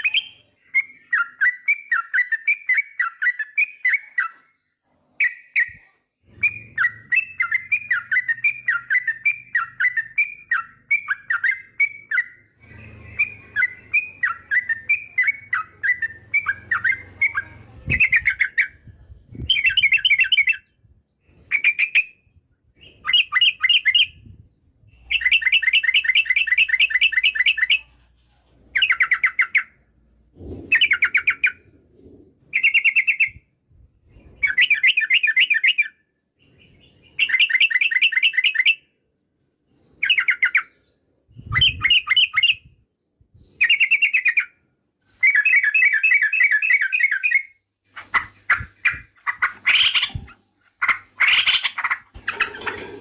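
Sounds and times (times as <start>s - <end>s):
bird chirping and trilling: 0.0s - 39.0s, 39.6s - 53.0s.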